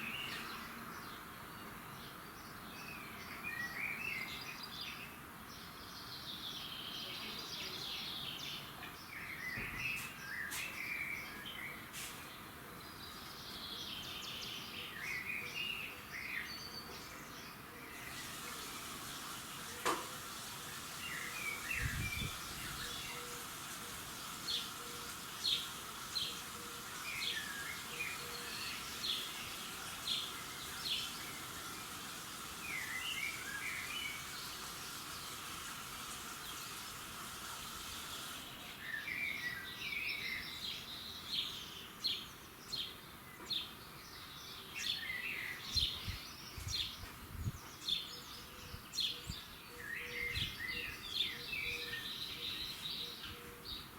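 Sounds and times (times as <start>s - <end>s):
songbirds chirping and twittering: 0.0s - 53.9s
steady background hiss: 0.0s - 53.9s.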